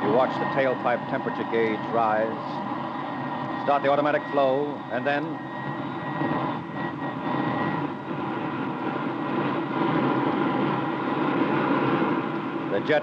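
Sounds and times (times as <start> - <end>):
jet engine starting up: 0.0 - 13.0.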